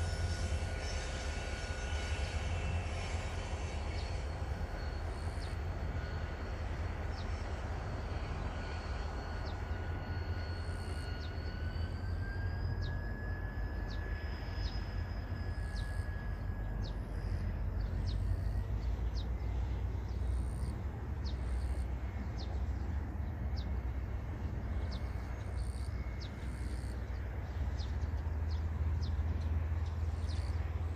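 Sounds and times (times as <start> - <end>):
distant diesel locomotive rumble: 0.0 - 30.9.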